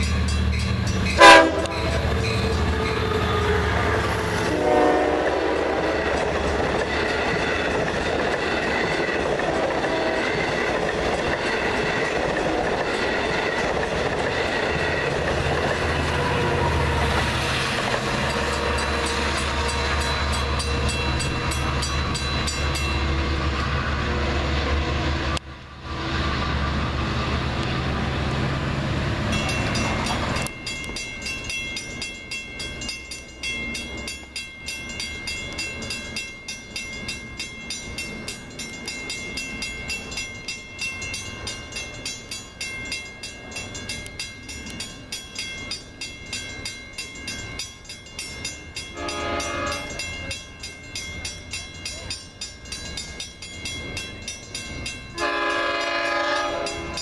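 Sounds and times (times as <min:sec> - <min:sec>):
diesel locomotive engine hum: 0:00.0 - 0:57.0
train coaches rumbling on rails: 0:00.0 - 0:57.0.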